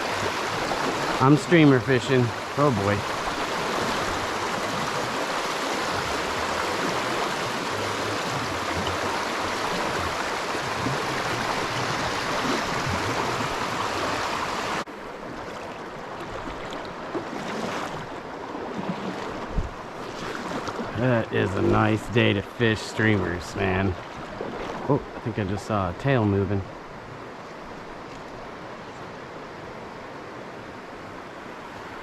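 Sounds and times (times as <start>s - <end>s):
stream water flowing: 0.0s - 32.0s.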